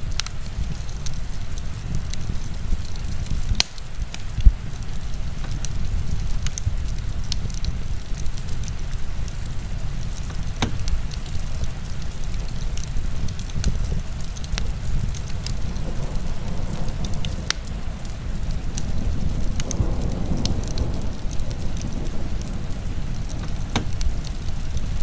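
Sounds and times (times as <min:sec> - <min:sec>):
heavy rain rumble: 0:00.0 - 0:25.0
wood fire crackling and popping: 0:00.0 - 0:25.0.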